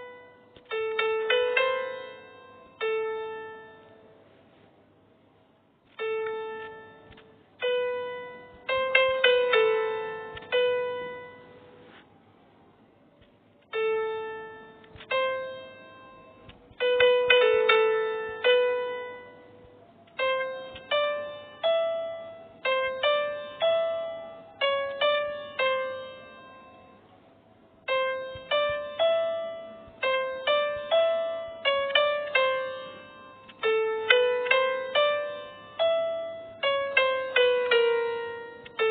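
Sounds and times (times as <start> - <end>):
slow piano-like melody: 0.0 - 38.9.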